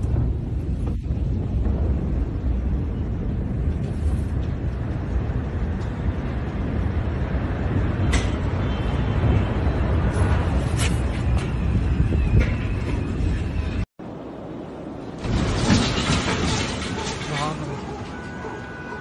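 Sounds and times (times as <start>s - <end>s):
low rumbling noise: 0.0s - 17.2s.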